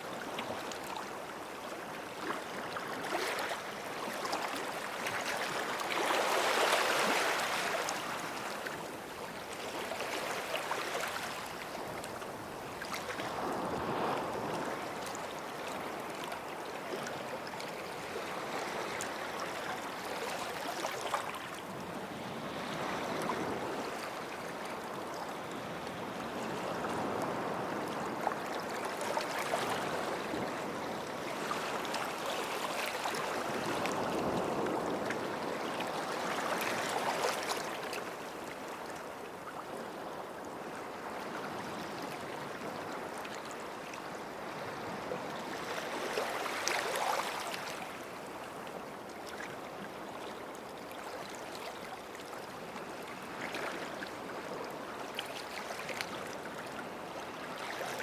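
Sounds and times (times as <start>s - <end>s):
sea waves on sandy shore: 0.0s - 39.2s, 39.8s - 48.7s.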